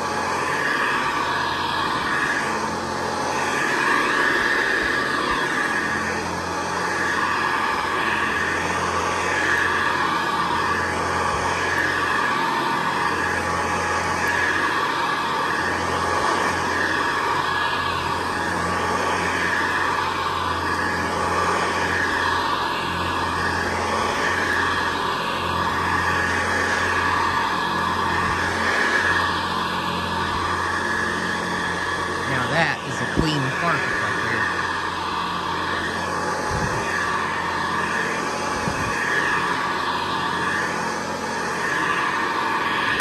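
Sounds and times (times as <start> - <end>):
vacuum cleaner running on carpet: 0.0 - 43.0.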